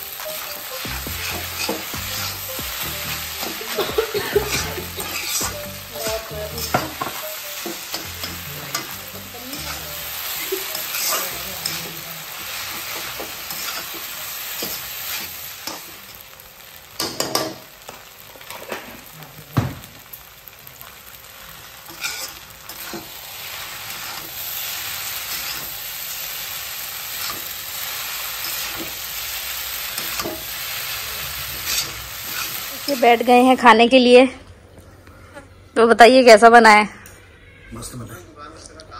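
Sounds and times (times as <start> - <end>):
noodles sizzling in a wok: 0.0 - 34.1.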